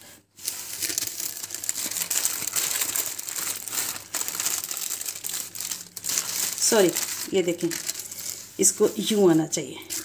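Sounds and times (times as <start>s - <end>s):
wrapping paper crinkling: 0.0s - 10.0s.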